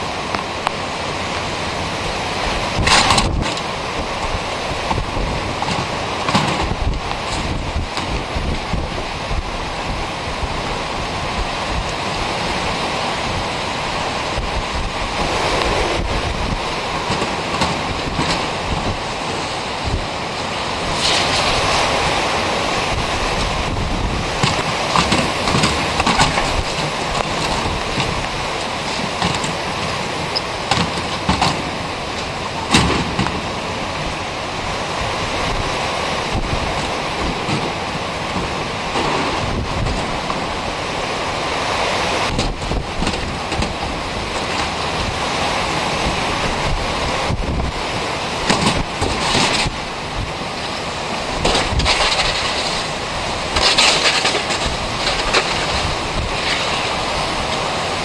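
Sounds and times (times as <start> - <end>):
strong wind buffeting microphone: 0.0 - 58.0.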